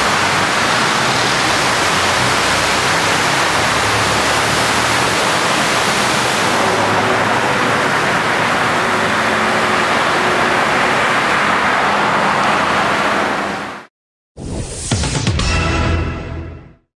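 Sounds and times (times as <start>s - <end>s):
tyres swishing through water: 0.0s - 13.9s.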